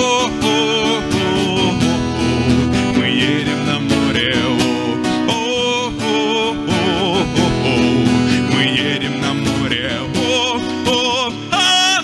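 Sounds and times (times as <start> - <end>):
acoustic guitars playing: 0.0 - 12.0
man singing with vibrato: 0.0 - 12.0.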